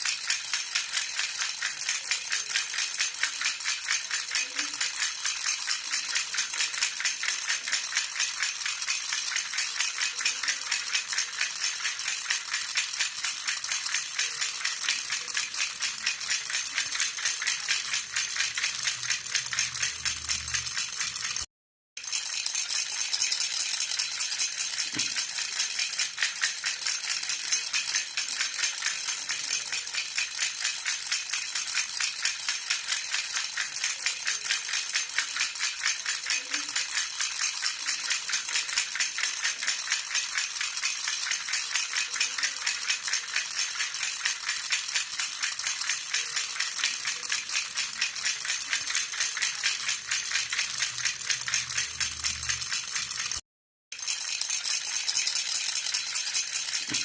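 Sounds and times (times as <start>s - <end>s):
baby rattle shaken: 0.0s - 57.0s.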